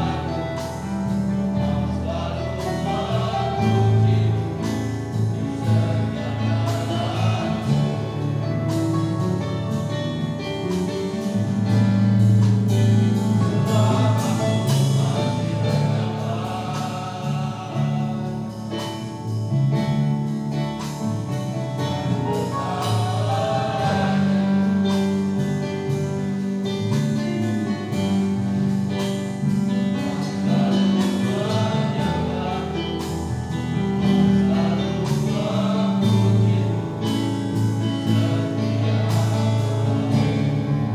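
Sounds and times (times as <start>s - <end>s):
light instrumental accompaniment: 0.0s - 40.9s
men's choir singing: 0.0s - 40.9s.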